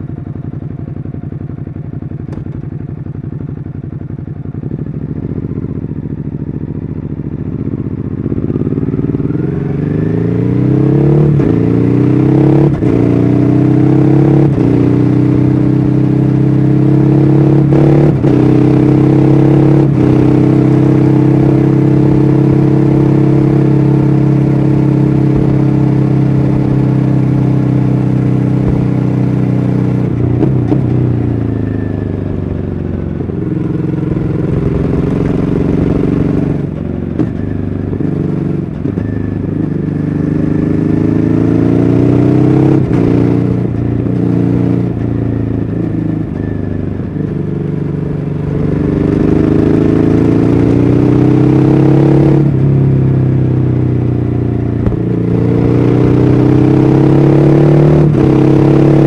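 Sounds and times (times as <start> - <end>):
motorcycle engine while riding: 0.0 - 59.0.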